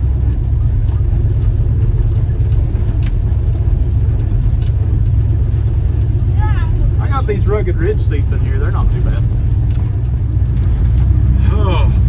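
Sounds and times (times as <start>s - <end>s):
car engine low rumble: 0.0s - 12.0s
light clicks and rattles: 0.3s - 11.4s.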